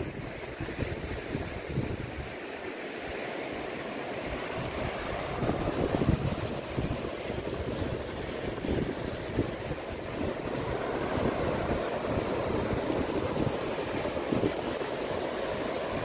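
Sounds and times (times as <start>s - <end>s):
wind buffeting microphone: 0.0s - 2.4s, 4.2s - 16.0s
ocean surf washing ashore: 0.0s - 16.0s.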